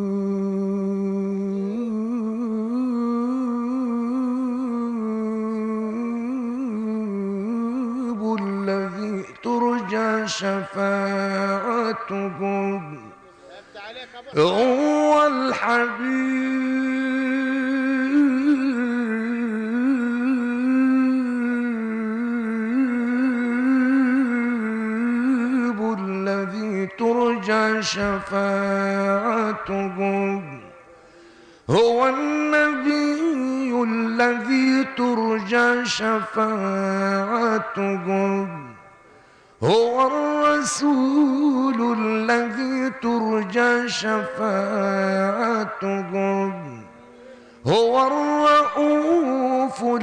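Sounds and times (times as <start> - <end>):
man chanting devotional song: 0.0 - 50.0.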